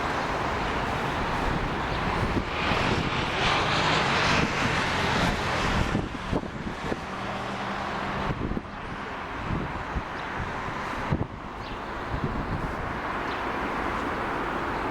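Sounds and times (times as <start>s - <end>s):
airliner engines passing: 0.0s - 14.9s.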